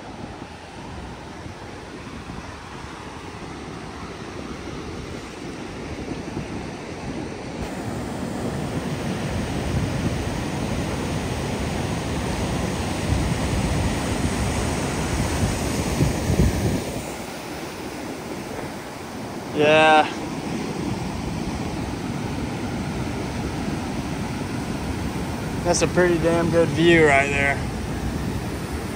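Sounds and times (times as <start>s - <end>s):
ocean surf breaking: 0.0s - 28.9s
wind buffeting microphone: 0.0s - 28.9s.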